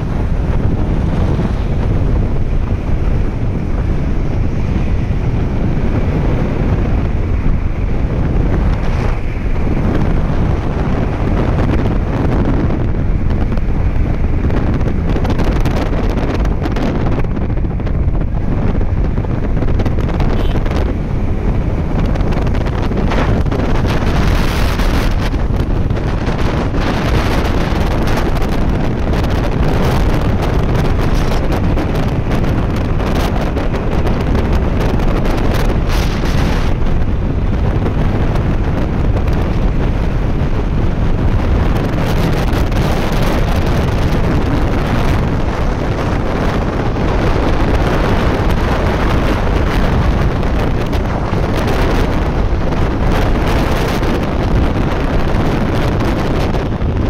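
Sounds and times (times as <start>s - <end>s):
motorcycle engine: 0.0s - 57.0s
road noise: 0.0s - 57.0s
wind rushing over microphone: 0.0s - 57.0s.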